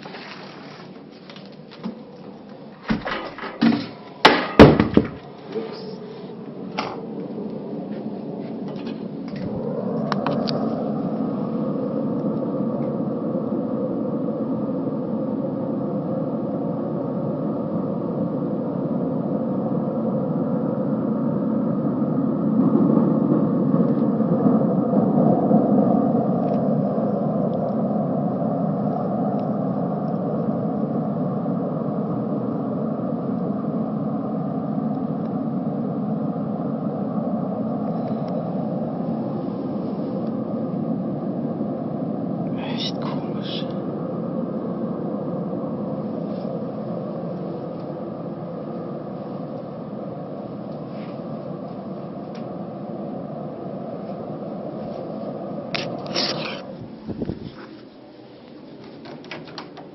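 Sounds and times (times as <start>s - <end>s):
low layered droning hum: 0.0s - 59.9s.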